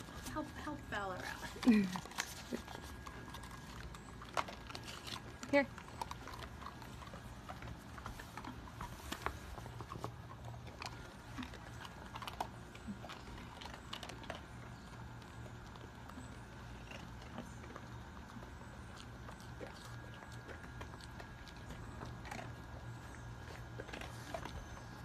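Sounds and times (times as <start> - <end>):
steady low hum: 0.0 - 25.0
dog chewing a hard biscuit: 1.2 - 25.0.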